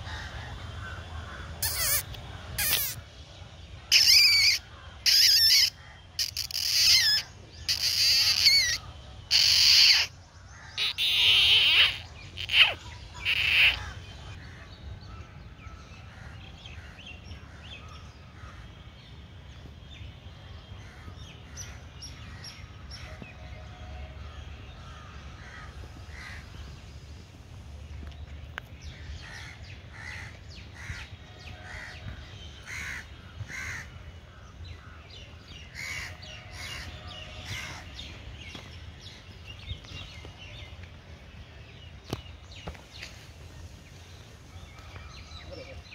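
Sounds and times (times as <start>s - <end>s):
birds calling: 0.0s - 3.2s, 3.8s - 19.0s, 20.6s - 45.9s.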